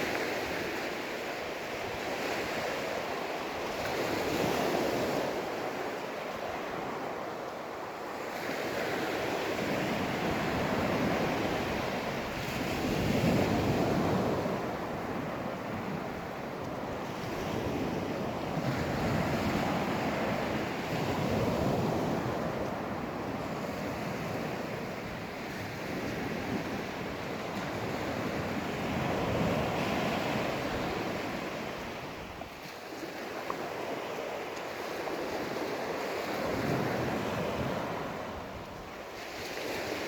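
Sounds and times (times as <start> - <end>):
sea waves breaking on beach: 0.0 - 40.0.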